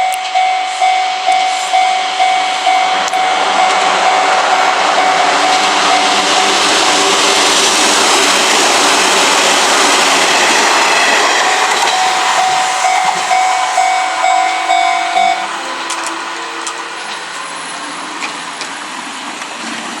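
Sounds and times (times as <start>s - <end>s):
train wheels and running gear: 0.0s - 20.0s.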